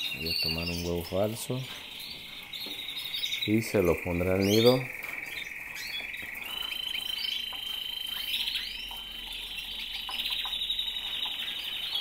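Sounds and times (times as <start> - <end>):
canaries rolling trill: 0.0 - 12.0.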